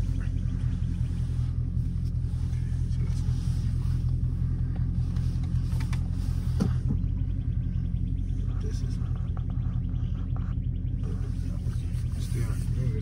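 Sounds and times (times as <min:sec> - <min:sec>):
car engine drone from inside cabin: 0:00.0 - 0:13.0.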